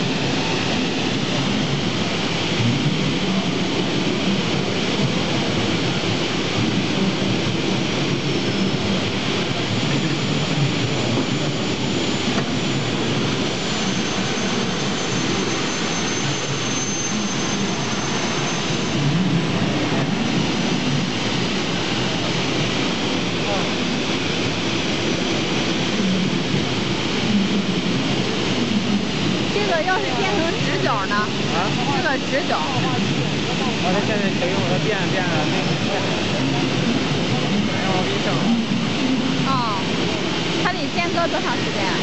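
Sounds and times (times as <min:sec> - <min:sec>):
crowd noise: 0:00.0 - 0:42.0
faint high whine: 0:00.0 - 0:42.0.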